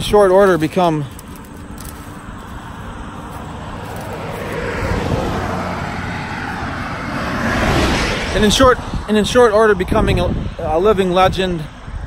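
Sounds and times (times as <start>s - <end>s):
passing vehicle engine and tyres: 0.0s - 12.0s.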